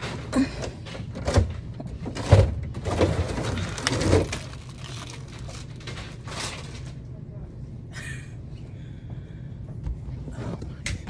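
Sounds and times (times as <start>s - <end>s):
low store hum: 0.0s - 11.0s.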